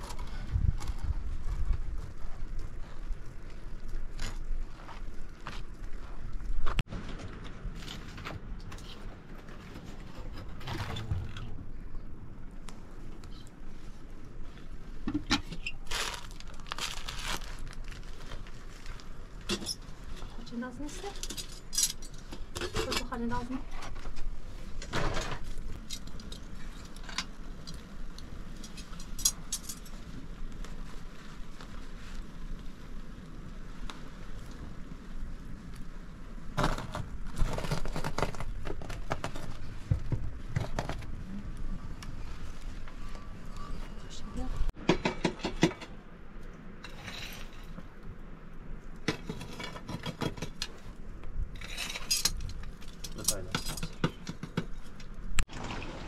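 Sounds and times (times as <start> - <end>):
low steady fire rumble: 0.0 - 44.8, 45.4 - 56.0
wood fire crackling and popping: 0.0 - 56.0.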